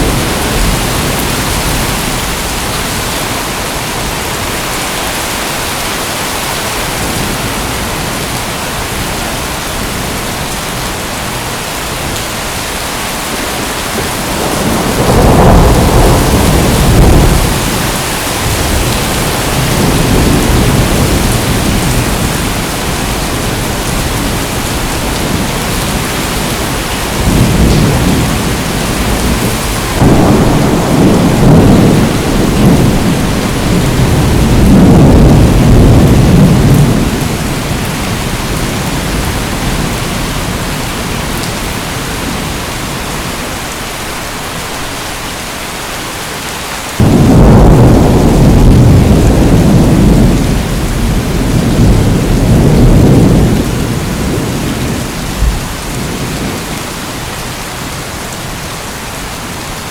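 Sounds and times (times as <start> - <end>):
thunder rumbling: 0.0 - 4.5, 6.6 - 42.7, 47.0 - 58.6
heavy rain hissing: 0.0 - 59.9.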